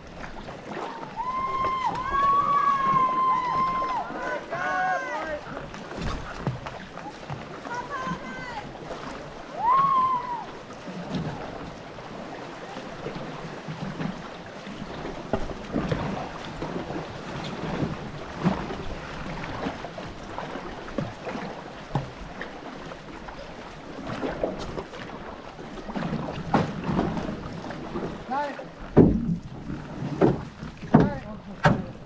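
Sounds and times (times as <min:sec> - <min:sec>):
paddle strokes splashing: 0:00.0 - 0:32.0
water rushing along hull: 0:00.0 - 0:32.0.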